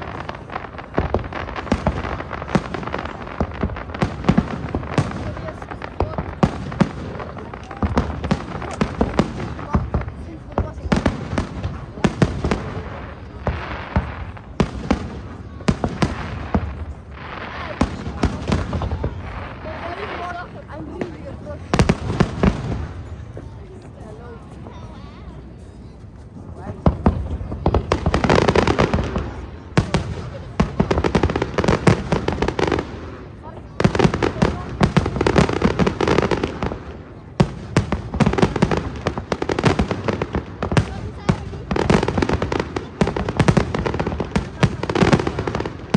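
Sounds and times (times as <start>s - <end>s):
firework bangs: 0.0s - 45.9s
fireworks crackling: 0.0s - 45.9s.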